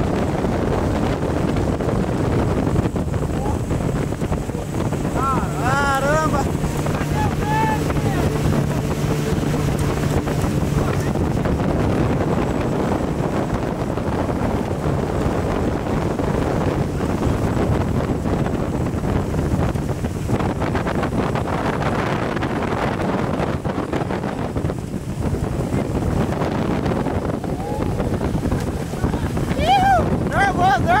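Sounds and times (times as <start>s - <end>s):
outboard motor running: 0.0s - 31.0s
rushing water and spray: 0.0s - 31.0s
wind buffeting microphone: 0.0s - 31.0s.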